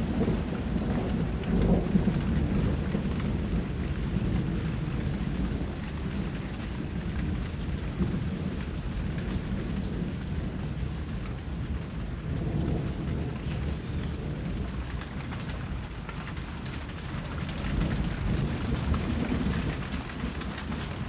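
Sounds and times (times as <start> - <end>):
low rolling thunder: 0.0 - 21.0
steady rainfall: 0.0 - 21.0.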